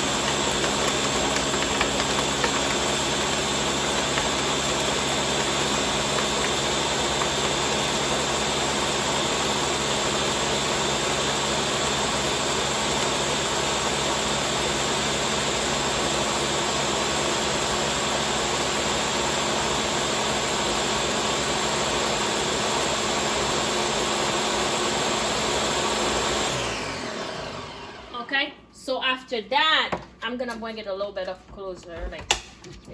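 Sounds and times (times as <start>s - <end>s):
blender motor running: 0.0s - 28.2s.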